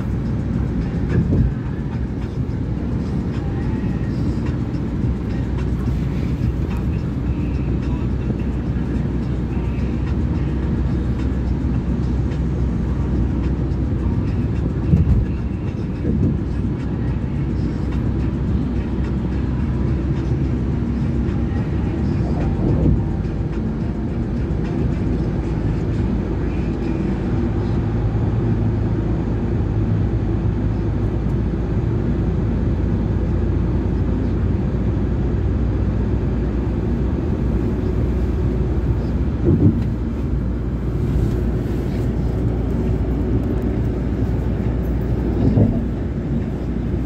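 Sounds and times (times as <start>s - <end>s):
vehicle rumbling in motion: 0.0s - 47.0s.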